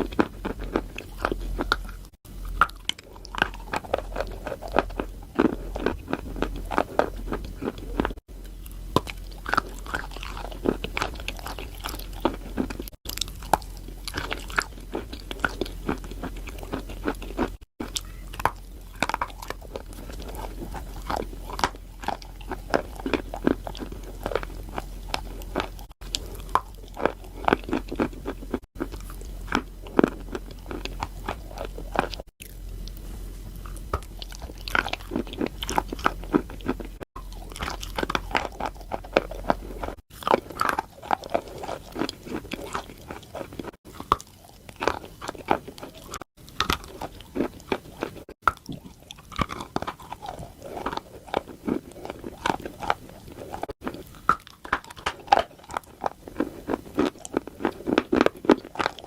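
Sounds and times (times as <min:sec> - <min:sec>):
chewing chalk: 0:00.0 - 0:59.0.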